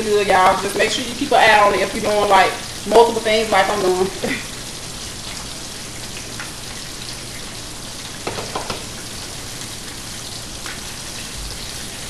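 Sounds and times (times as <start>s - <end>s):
food sizzling in pans: 0.0s - 12.0s.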